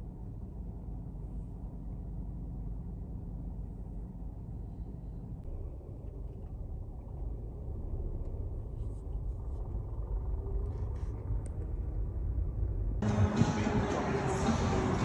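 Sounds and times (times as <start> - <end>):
car engine and exhaust rumble: 0.0 - 15.0.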